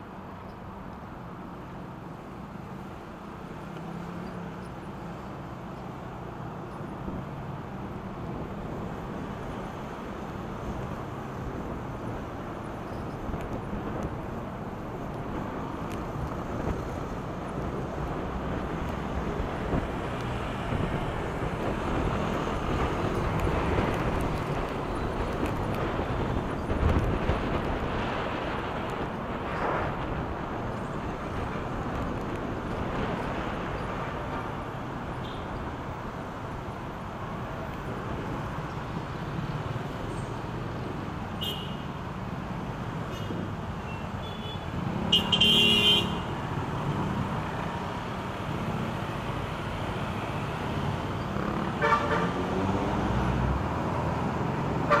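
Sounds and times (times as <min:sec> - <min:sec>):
city traffic: 0:00.0 - 0:55.0
wind and road noise: 0:00.0 - 0:55.0.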